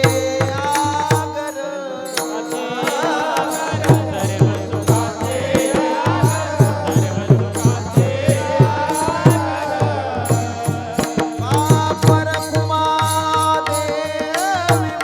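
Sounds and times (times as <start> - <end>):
devotional melody: 0.0 - 15.0.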